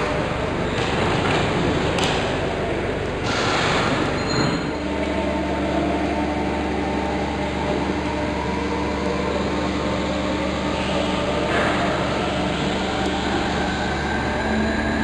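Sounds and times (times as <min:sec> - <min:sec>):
steam engine humming: 0:00.0 - 0:15.0.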